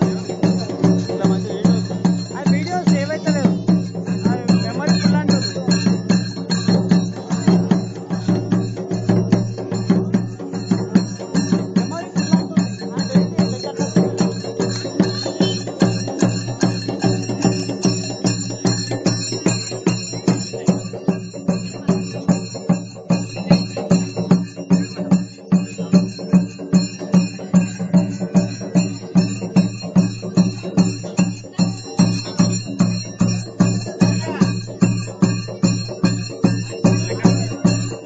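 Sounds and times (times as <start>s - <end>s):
music with fast percussion beat: 0.0s - 38.0s.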